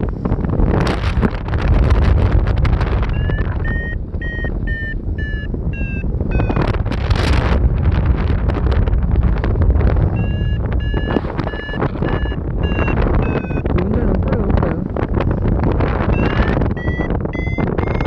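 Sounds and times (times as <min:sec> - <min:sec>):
wind buffeting microphone: 0:00.0 - 0:18.0
variometer beeping: 0:01.9 - 0:07.6, 0:09.2 - 0:18.0.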